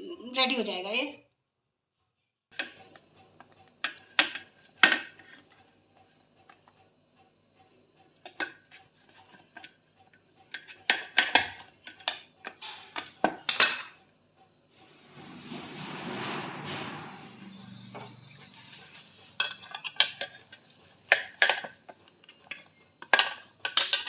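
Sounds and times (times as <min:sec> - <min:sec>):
utensils and dishes clattering: 0:02.5 - 0:06.7, 0:08.2 - 0:14.1, 0:14.7 - 0:24.0.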